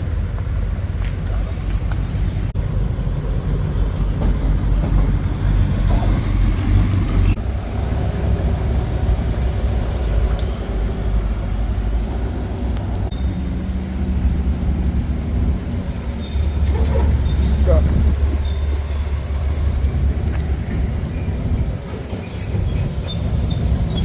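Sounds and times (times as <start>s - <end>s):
vehicle engines rumbling: 0.0s - 24.0s.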